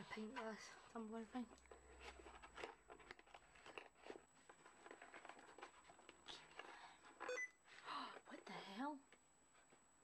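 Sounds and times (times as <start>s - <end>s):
soft rustling: 0.0s - 8.6s.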